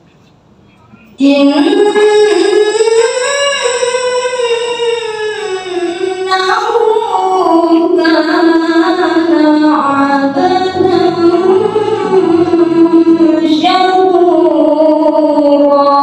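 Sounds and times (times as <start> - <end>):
woman reciting melodically: 1.1 - 16.0.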